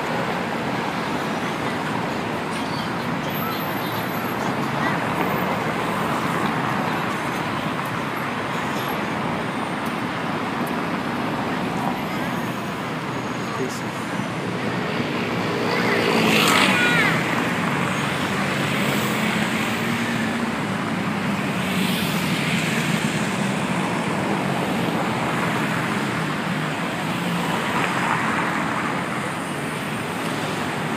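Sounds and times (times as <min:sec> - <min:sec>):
road traffic noise: 0:00.0 - 0:30.9.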